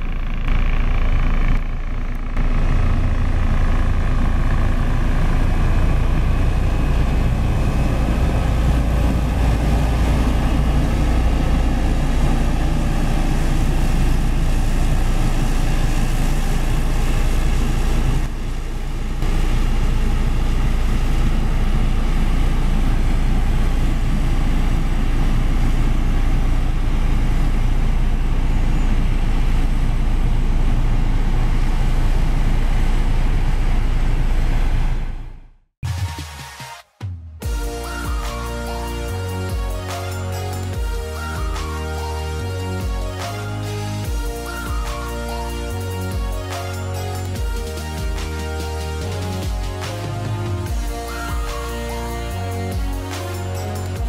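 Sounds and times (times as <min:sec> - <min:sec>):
road roller diesel engine rumbling: 0:00.0 - 0:35.4, 0:37.4 - 0:54.0.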